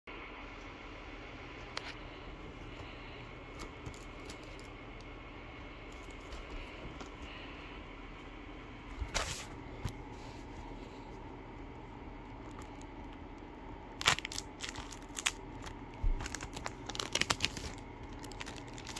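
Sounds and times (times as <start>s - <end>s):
background hiss and hum: 0.0s - 18.9s.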